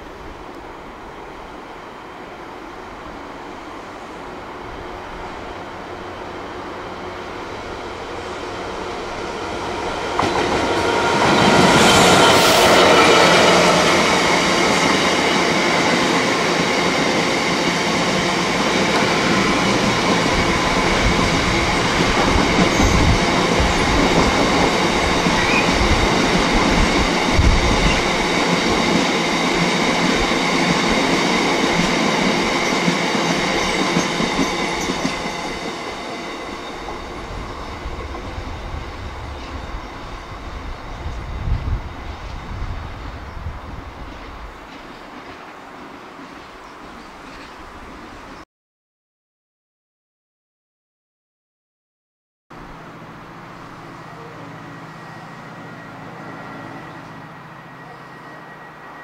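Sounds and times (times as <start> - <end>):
diesel locomotive passing: 0.0 - 48.3, 52.5 - 59.0.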